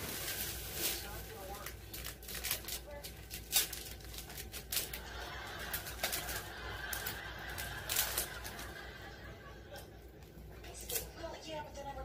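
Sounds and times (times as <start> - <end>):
food wrappers crinkling: 0.0 - 8.9, 10.2 - 11.3.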